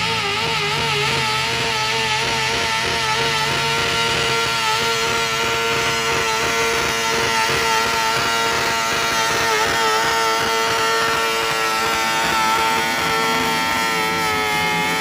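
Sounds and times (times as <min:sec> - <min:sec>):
tractor engine running hard: 0:00.0 - 0:15.0.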